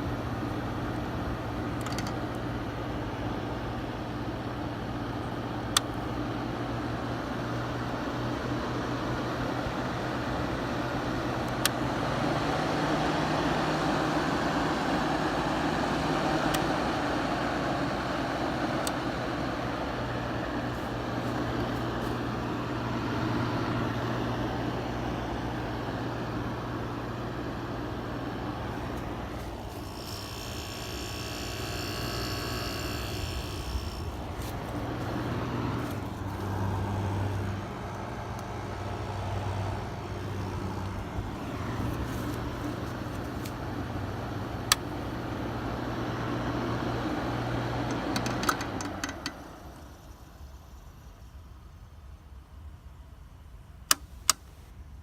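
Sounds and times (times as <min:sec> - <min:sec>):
window air conditioner running: 0:00.0 - 0:55.0.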